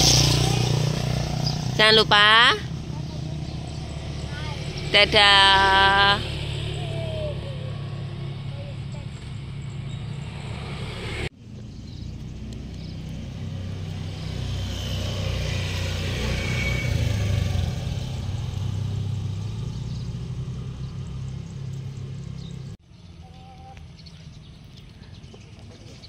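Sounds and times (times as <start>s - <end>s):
motorbike engine: 0.0s - 22.8s
vehicle passing by: 0.0s - 23.4s.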